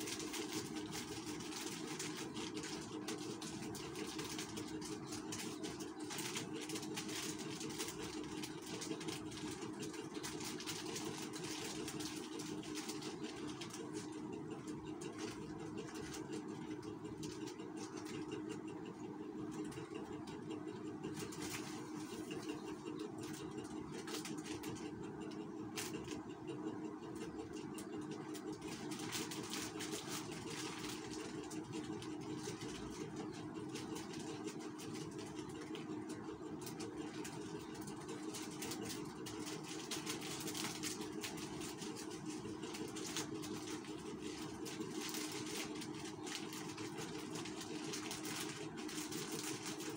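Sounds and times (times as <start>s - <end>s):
plastic strips crinkling: 0.0s - 18.6s, 19.4s - 26.2s, 27.0s - 49.9s
mechanical hum: 0.0s - 49.9s.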